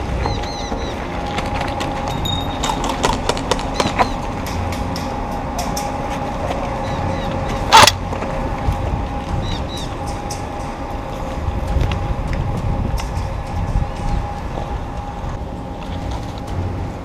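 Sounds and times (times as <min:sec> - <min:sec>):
steady high hum: 0:00.0 - 0:17.0
wind rumble on microphone: 0:00.0 - 0:17.0.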